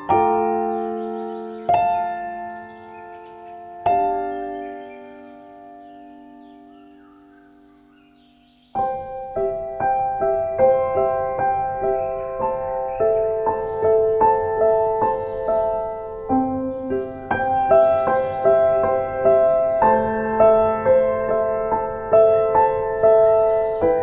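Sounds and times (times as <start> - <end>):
soft piano music: 0.0 - 24.0.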